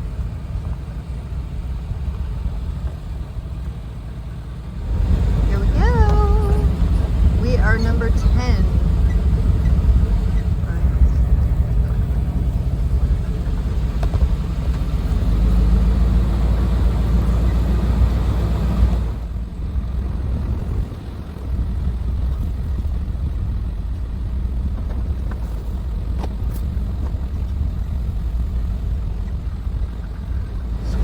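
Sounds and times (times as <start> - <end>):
road noise: 0.0 - 31.0
truck engine rumbling: 0.0 - 31.0.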